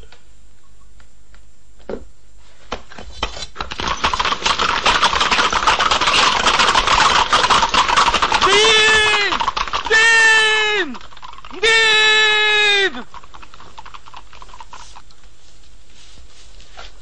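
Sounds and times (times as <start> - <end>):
galloping horse hooves: 2.6 - 17.0.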